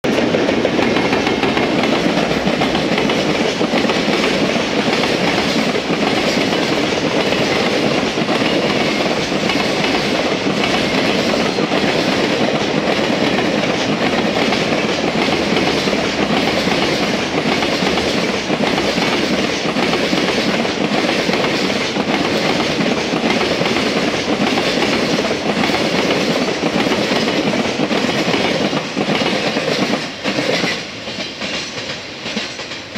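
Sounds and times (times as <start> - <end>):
train wheels clattering over rail joints: 0.0 - 32.9.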